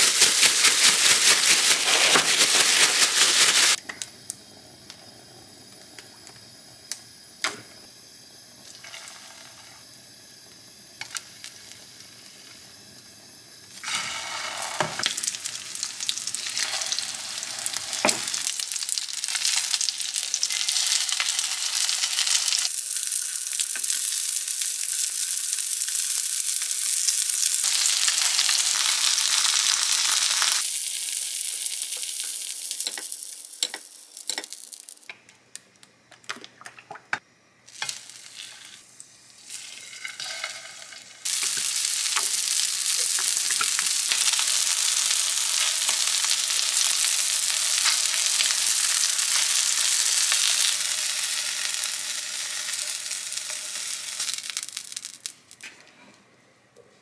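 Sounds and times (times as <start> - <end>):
oysters sizzling in oil: 0.0 - 35.1, 37.7 - 55.6.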